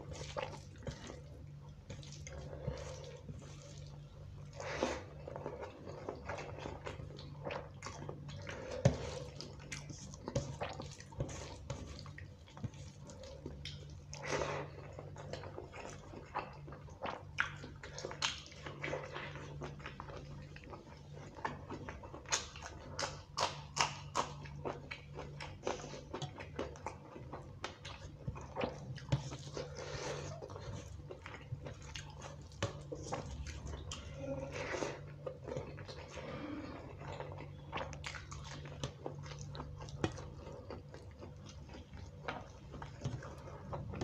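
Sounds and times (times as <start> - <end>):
chewing and lip smacks: 5.3 - 44.0.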